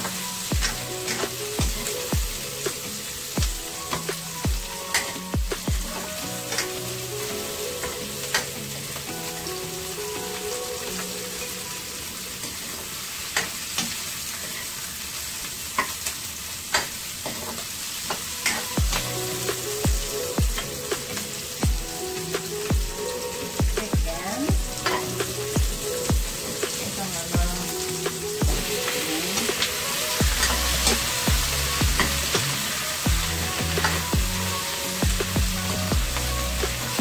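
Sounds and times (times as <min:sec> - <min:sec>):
onions sizzling in a frying pan: 0:00.0 - 0:37.0.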